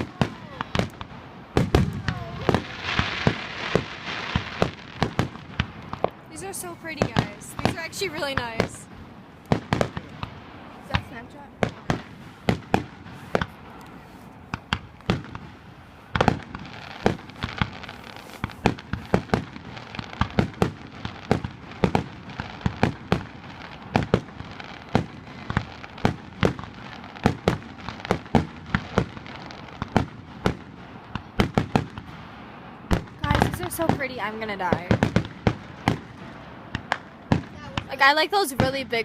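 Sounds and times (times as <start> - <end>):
crackling hiss: 0.0 - 39.0
firework bangs: 0.0 - 39.0.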